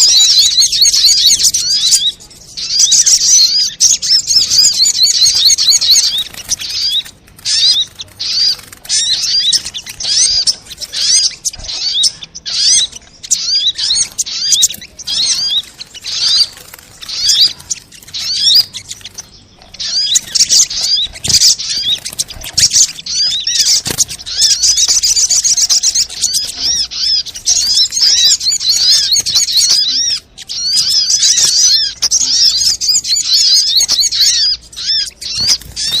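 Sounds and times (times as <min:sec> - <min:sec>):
sunbird chattering: 0:00.0 - 0:36.0.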